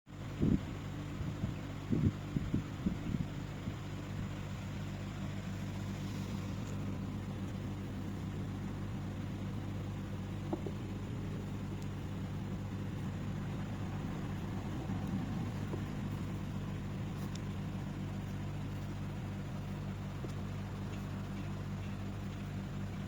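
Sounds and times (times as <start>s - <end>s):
low mechanical engine hum: 0.0s - 23.0s.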